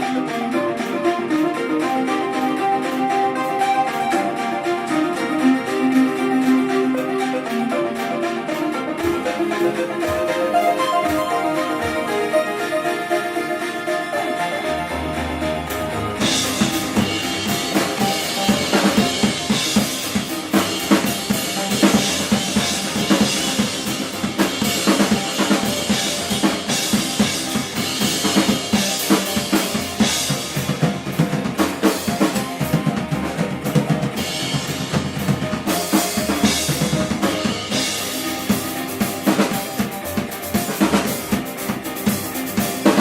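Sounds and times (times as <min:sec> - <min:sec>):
live band playing: 0:00.0 - 0:43.0.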